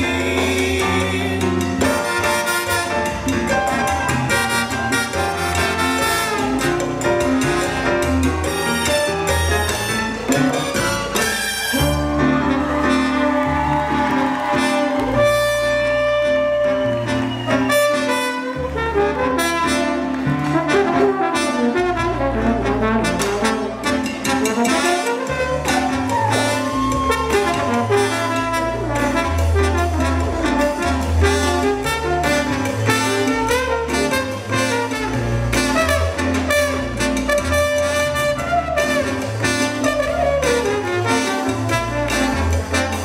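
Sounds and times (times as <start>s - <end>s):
salsa band playing: 0.0s - 43.0s
trombones: 0.0s - 43.0s.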